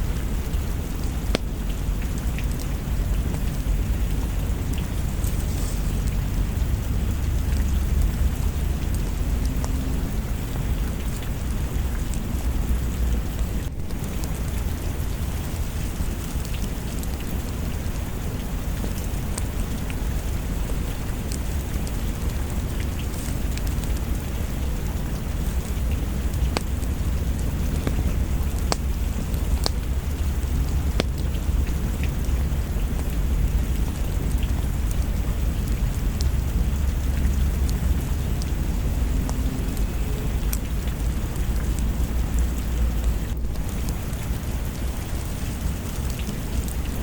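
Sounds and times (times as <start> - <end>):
deep low rumble: 0.0 - 47.0
steady rain: 0.0 - 47.0.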